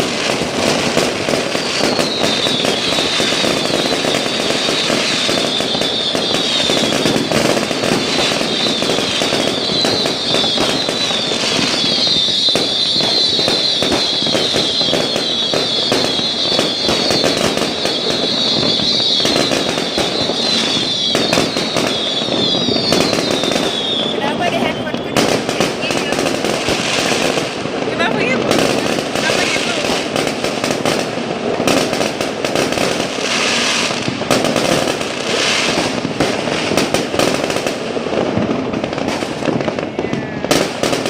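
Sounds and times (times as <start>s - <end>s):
fireworks and firecrackers crackling: 0.0s - 41.0s.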